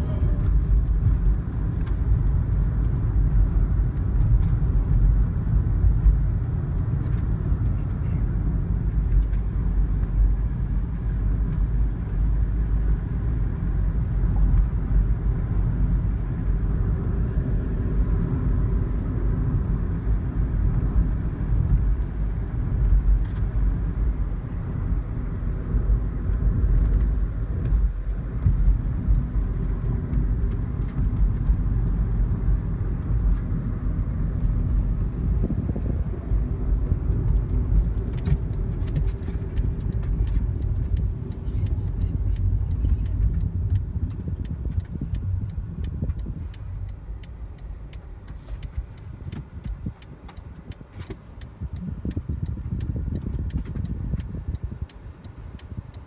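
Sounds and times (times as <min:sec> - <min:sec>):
car road noise from inside: 0:00.0 - 0:56.0.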